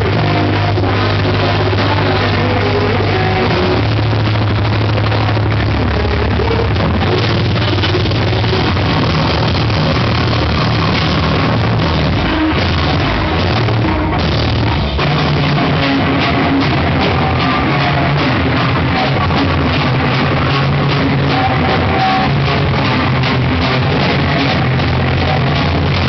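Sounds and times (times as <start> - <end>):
evenly spaced drum hits: 0.0 - 26.0
live rock band playing: 0.0 - 26.0.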